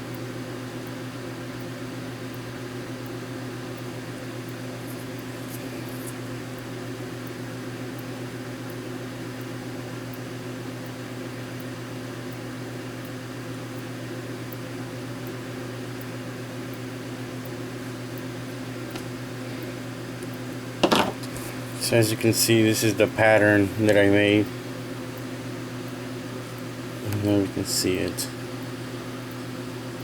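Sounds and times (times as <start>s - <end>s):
electrical hum and hiss: 0.0s - 30.0s.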